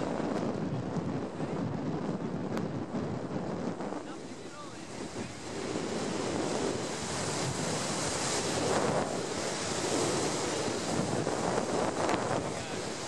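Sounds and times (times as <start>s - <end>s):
rushing wind noise: 0.0s - 13.0s.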